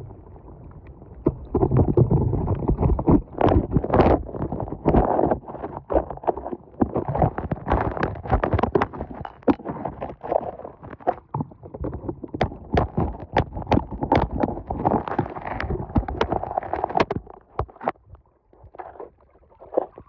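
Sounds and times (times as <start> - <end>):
muffled underwater water sloshing: 0.0 - 20.0.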